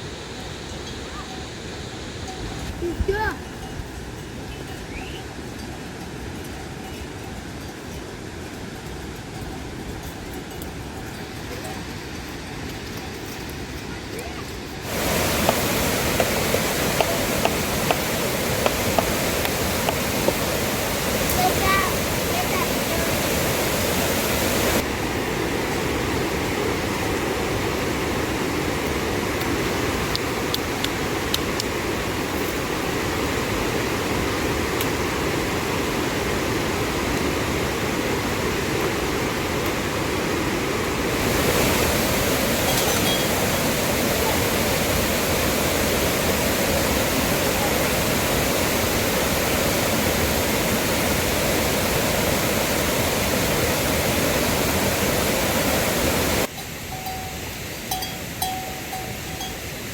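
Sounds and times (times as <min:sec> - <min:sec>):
water rushing: 0:00.0 - 0:03.7, 0:07.3 - 0:59.9.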